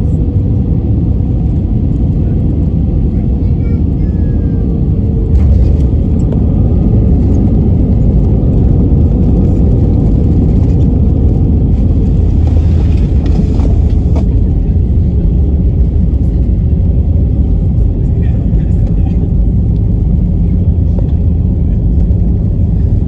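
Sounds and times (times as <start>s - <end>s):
airliner landing rumble: 0.0s - 23.0s.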